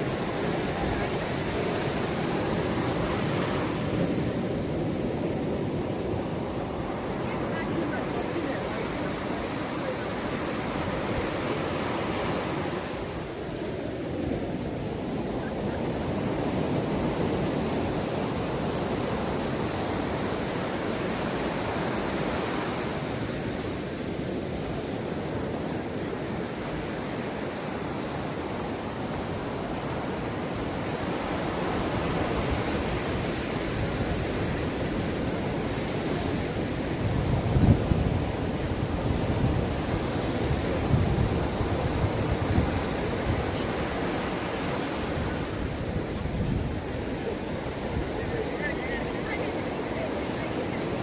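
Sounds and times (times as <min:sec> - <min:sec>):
waves breaking on beach: 0:00.0 - 0:51.0.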